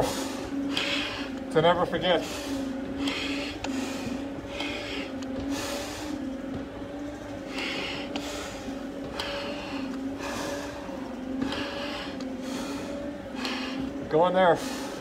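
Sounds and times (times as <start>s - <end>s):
breathing through a regulator: 0.0s - 6.3s, 7.4s - 15.0s
steady mechanical hum: 0.0s - 15.0s.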